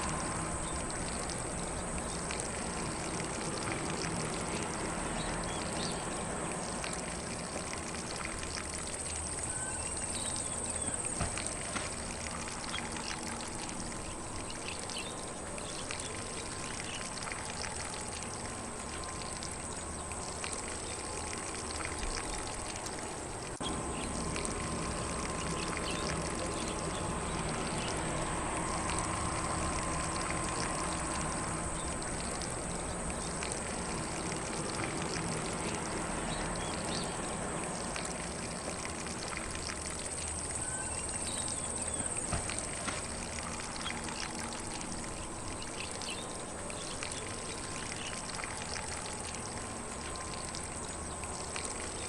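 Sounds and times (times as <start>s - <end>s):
lawn sprinkler spraying water: 0.0s - 52.0s.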